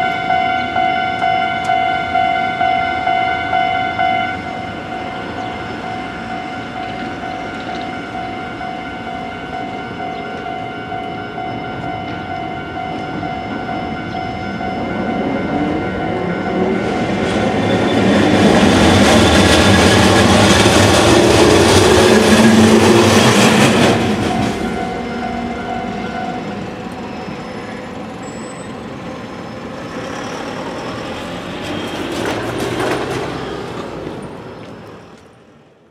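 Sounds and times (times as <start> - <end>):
level crossing alarm ringing: 0.0 - 29.9
streetcar wheels rumbling and clattering: 0.0 - 35.9.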